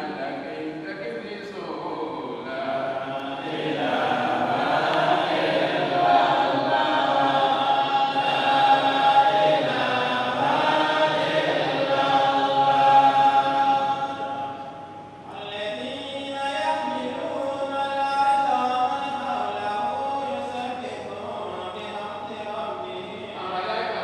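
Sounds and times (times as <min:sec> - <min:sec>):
man chanting over loudspeaker: 0:00.0 - 0:24.0.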